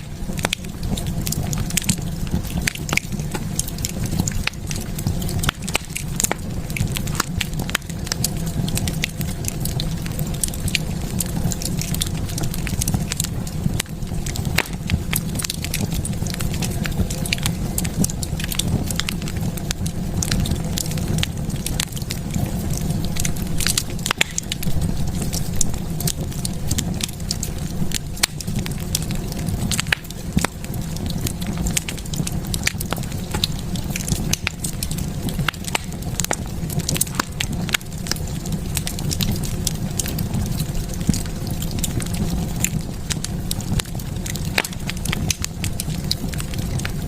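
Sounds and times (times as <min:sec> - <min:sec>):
fire crackling and popping: 0:00.0 - 0:47.0
low rumble of flames: 0:00.0 - 0:47.0.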